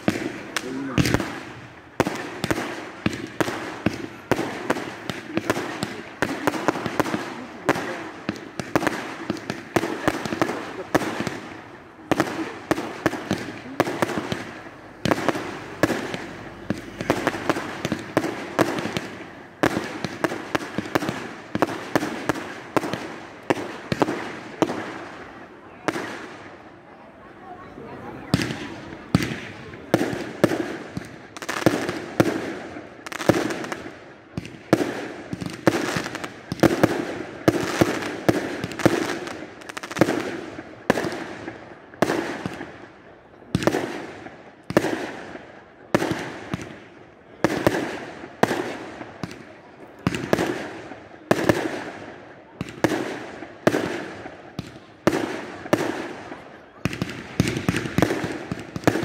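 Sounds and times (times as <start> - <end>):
fireworks bangs echoing: 0.0 - 59.0.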